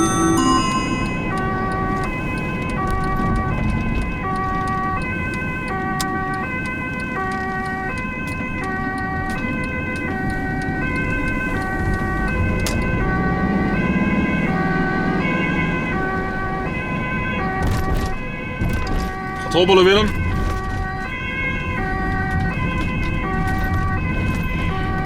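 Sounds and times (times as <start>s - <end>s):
ambulance engine rumble: 0.0s - 25.0s
ambulance two-tone siren: 0.0s - 25.0s
tyres on road: 0.0s - 25.0s.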